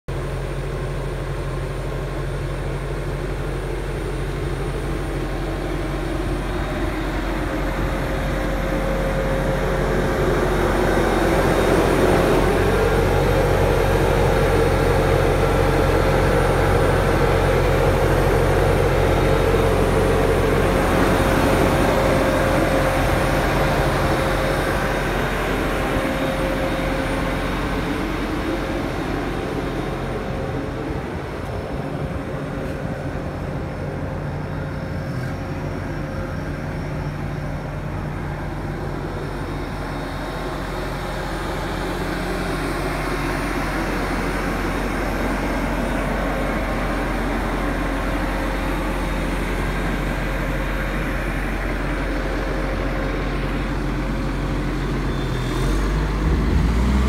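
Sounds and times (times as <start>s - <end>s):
diesel engine idling: 0.1s - 57.0s.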